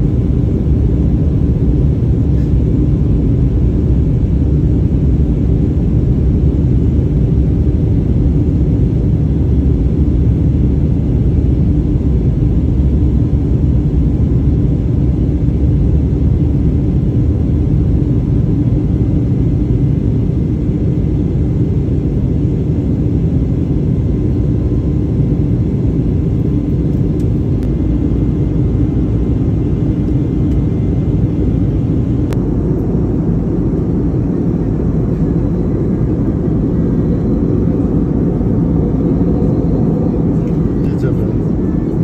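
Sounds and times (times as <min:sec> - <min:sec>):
jet engine roar in cabin: 0:00.0 - 0:42.0.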